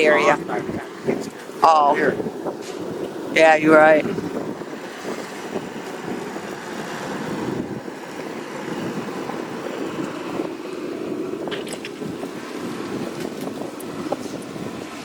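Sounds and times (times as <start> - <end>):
portable heater roaring: 0.0 - 15.0.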